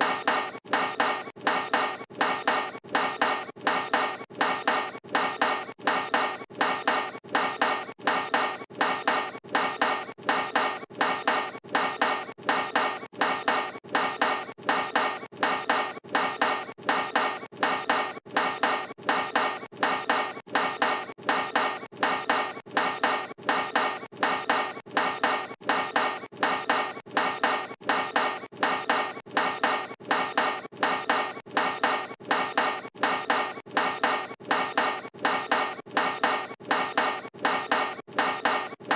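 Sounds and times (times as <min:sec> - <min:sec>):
basketball clanking off metal rim: 0:00.0 - 0:38.9.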